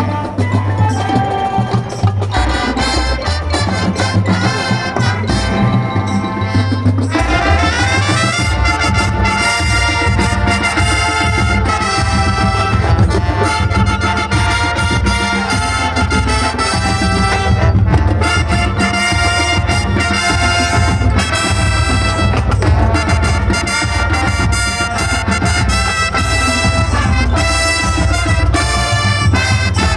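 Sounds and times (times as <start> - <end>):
marching band playing: 0.0 - 29.9.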